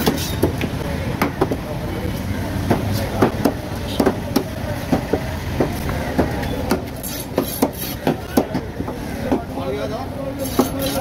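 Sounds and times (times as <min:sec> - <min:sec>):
low traffic hum: 0:00.0 - 0:11.0.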